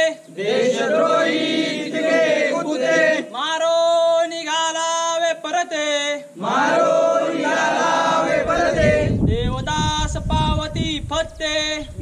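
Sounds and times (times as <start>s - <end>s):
men chanting a prayer: 0.0s - 11.9s.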